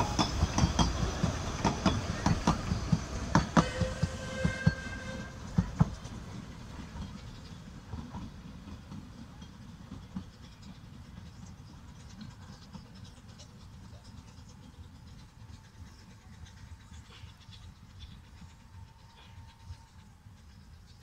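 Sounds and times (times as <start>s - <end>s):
steam train rumbling: 0.0s - 21.0s.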